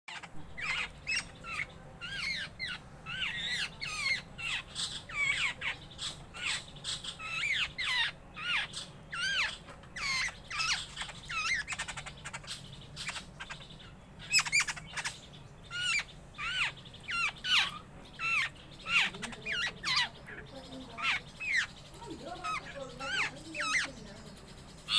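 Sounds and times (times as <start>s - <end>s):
birds chattering: 0.1s - 24.9s.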